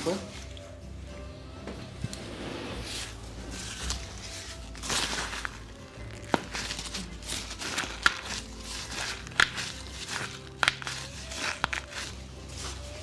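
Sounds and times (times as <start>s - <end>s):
rustling of bodies and clothing: 0.0s - 13.0s.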